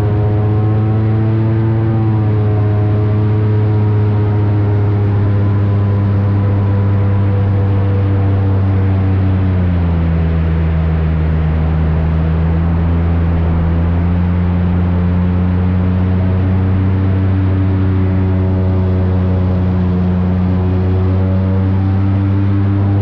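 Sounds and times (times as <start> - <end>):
airboat engine and propeller running: 0.0 - 23.0.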